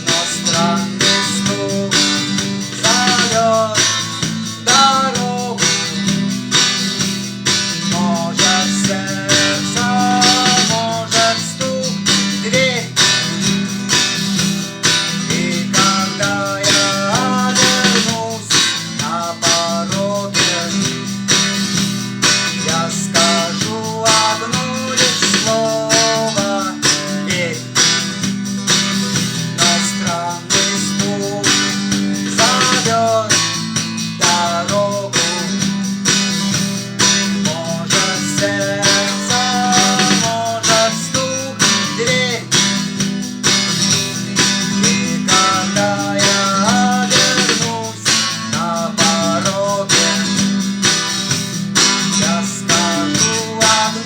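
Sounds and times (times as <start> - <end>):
guitar strumming: 0.0 - 54.0.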